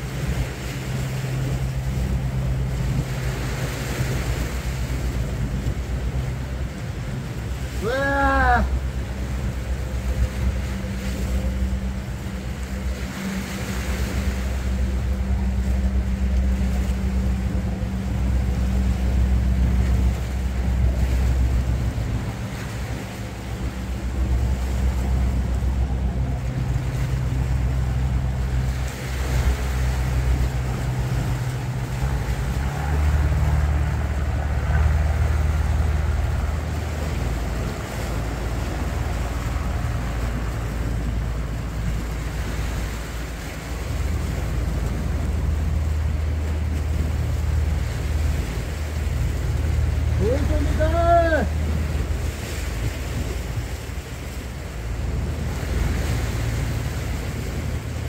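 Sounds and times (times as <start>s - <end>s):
sea swell washing on rocks: 0.0s - 58.0s
small boat engine: 0.0s - 58.0s.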